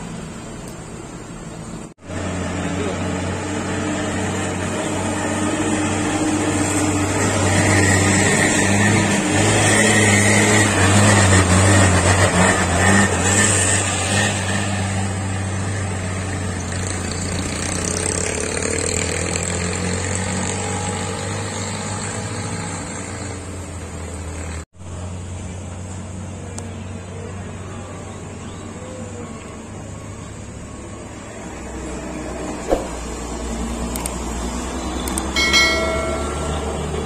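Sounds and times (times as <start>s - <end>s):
diesel truck engine labouring: 0.0s - 37.0s.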